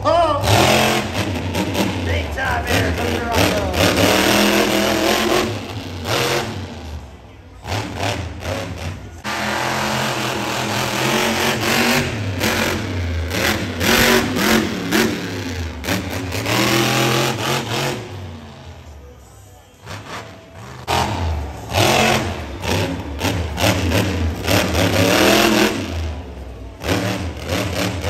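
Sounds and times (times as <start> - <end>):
truck engine revving hard: 0.3 - 19.1, 19.8 - 28.0.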